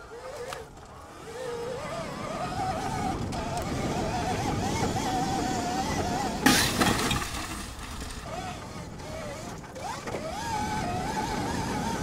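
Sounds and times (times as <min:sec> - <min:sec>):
electric dirt bike motor whining: 0:00.0 - 0:06.7, 0:07.8 - 0:12.0.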